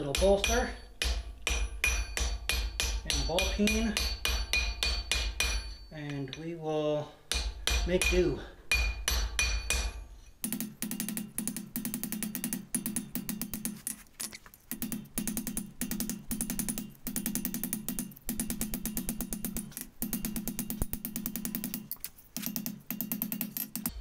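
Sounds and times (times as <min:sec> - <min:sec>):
rapid hammer strikes on metal: 0:00.0 - 0:06.4, 0:07.3 - 0:13.8, 0:14.7 - 0:24.0.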